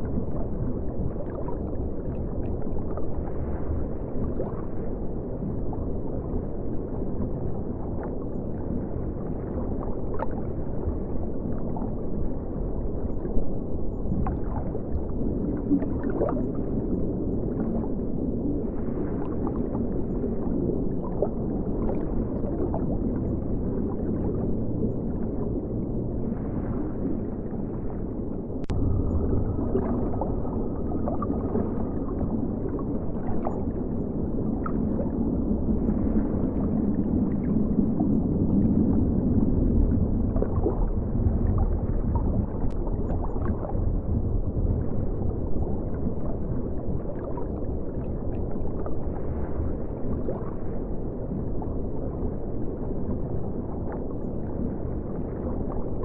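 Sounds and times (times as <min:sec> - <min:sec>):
muffled underwater river gurgle: 0:00.0 - 0:56.0.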